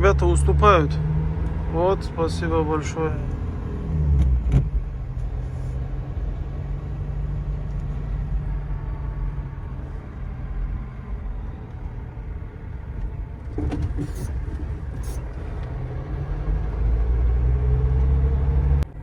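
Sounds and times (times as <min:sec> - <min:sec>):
van engine droning: 0:00.0 - 0:19.0.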